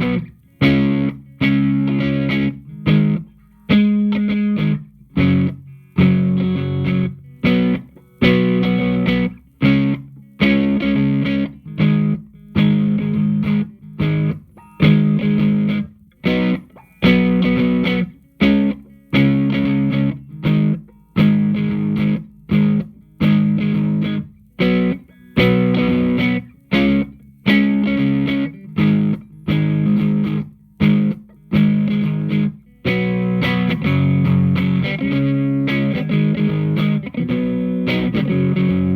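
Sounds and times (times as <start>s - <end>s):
electric guitar choppy chords: 0.0s - 38.9s.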